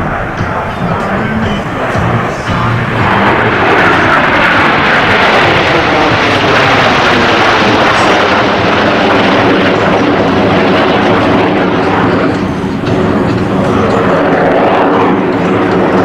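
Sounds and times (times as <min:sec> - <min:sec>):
jets flying past: 0:00.0 - 0:16.0.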